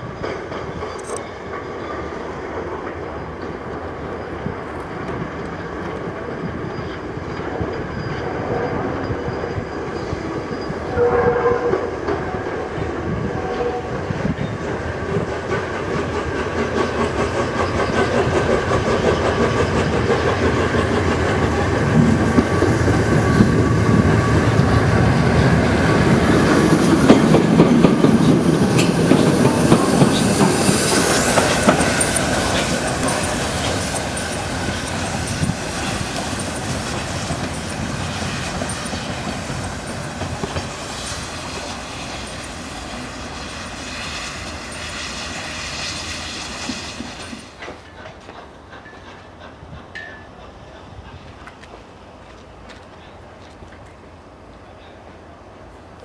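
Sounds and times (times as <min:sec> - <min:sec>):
wheels on rails: 0:00.0 - 0:45.8
steam locomotive exhaust: 0:06.1 - 0:51.6.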